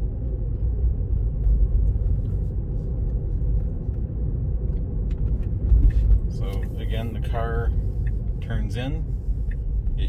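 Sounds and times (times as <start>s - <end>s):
road and tyre rumble in car cabin: 0.0s - 10.0s.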